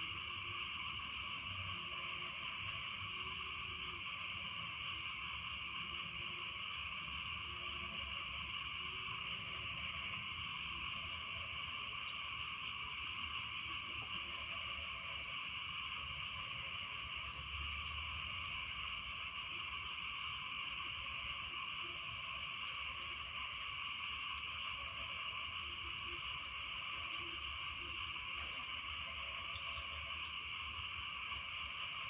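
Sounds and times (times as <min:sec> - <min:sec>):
frogs calling: 0:00.0 - 0:32.0
insects calling: 0:00.0 - 0:32.0.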